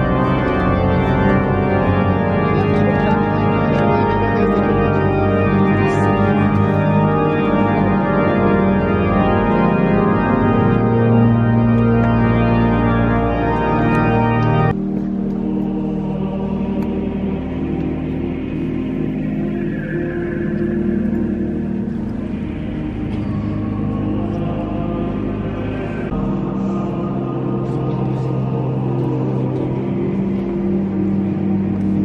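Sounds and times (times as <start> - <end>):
organ sustained chords: 0.0 - 32.0.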